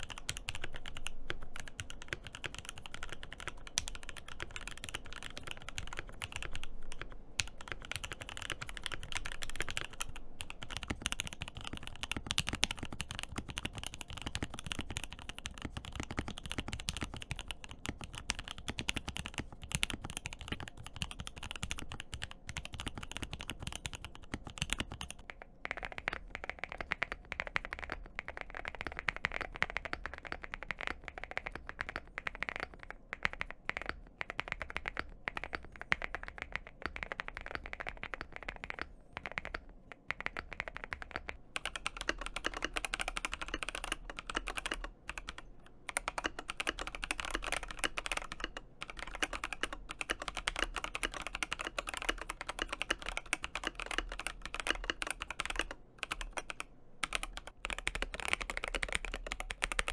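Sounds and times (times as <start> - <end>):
typing on mechanical keyboard: 0.0 - 59.9.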